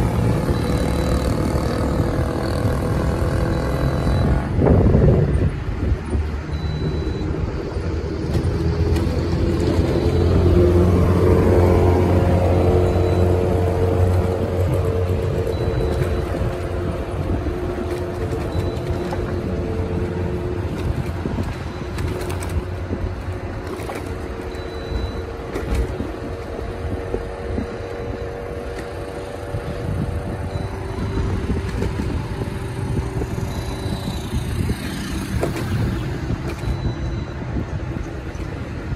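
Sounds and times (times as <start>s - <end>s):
auto-rickshaw passing: 0.0s - 38.9s
engine and road noise: 0.0s - 38.9s.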